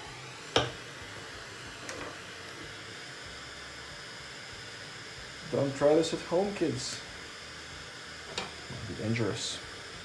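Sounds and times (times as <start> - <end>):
gas torch flame hissing: 0.0 - 10.0.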